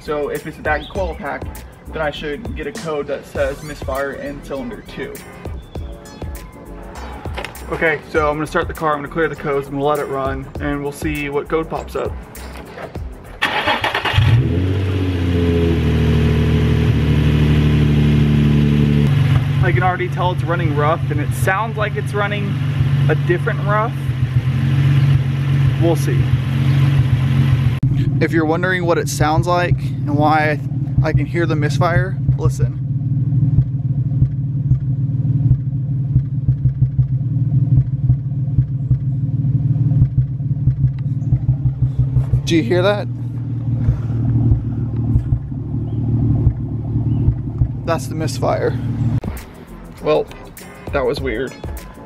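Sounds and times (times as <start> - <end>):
car engine starting and idling rough: 0.0 - 52.0.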